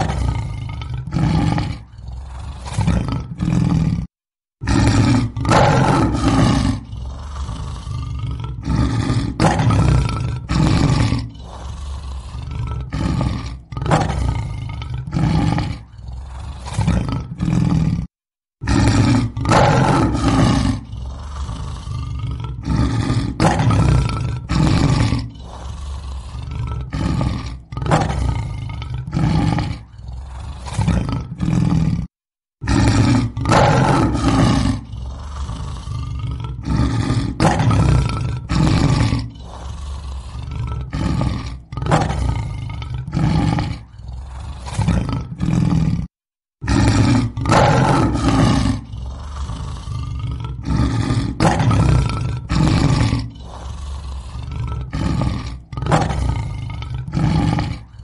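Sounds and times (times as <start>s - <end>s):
lion roaring: 0.0s - 58.0s.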